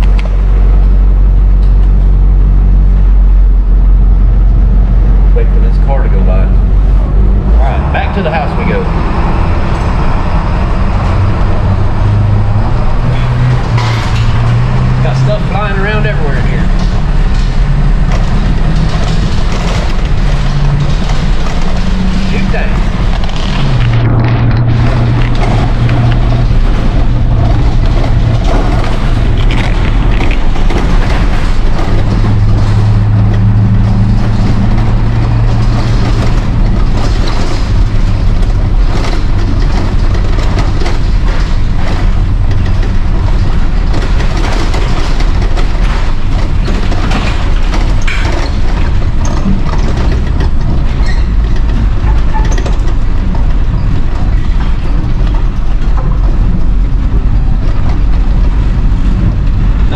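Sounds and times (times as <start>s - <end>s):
diesel engine drone: 0.0s - 59.9s
road noise: 0.0s - 59.9s.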